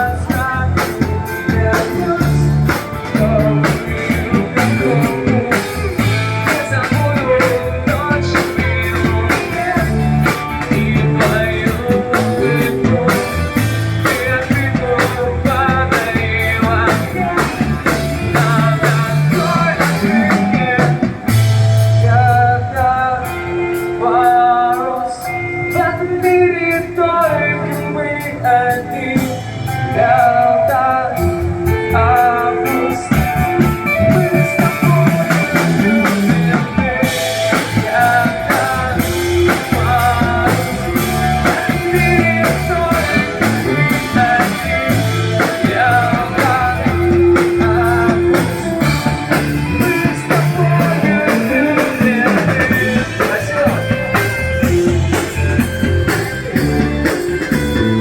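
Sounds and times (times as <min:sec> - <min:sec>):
instrumental rock music: 0:00.0 - 0:58.0.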